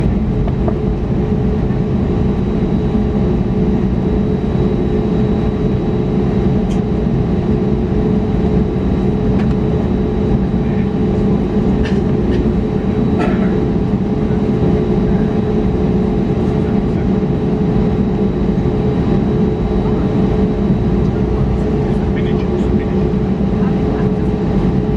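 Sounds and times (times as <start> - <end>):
aircraft cabin hum: 0.0 - 24.9.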